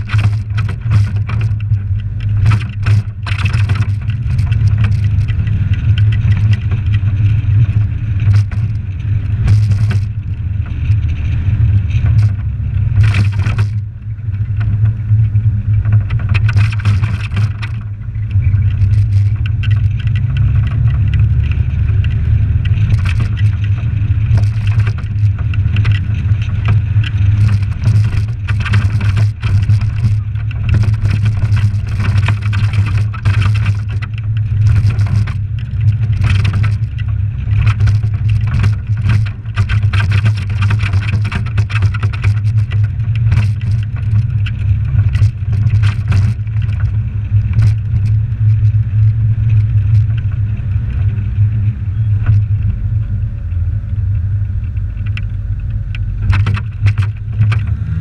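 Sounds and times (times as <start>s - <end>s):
sharp knocks and rattles: 0.0s - 52.8s, 54.7s - 58.0s
car engine drone: 0.0s - 58.0s.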